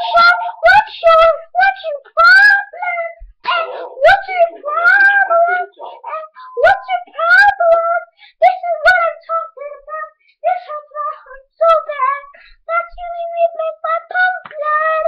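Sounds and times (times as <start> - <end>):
child singing: 0.0 - 15.0.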